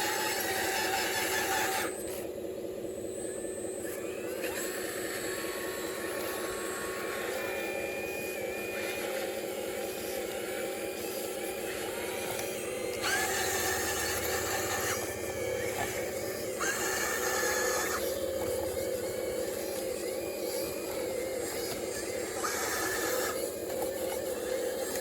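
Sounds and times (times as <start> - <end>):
electric hum: 0.0 - 25.0
hydraulic pump whirring: 0.0 - 25.0.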